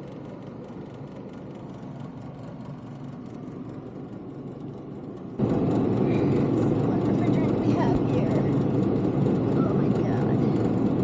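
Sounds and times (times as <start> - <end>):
condensing unit fan rushing: 0.0 - 11.0
refrigeration machinery hum: 0.0 - 11.0.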